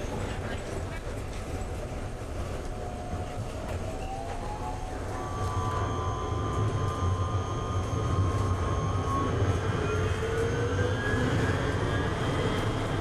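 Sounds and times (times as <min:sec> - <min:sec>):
tram rumbling on tracks: 0:00.0 - 0:13.0.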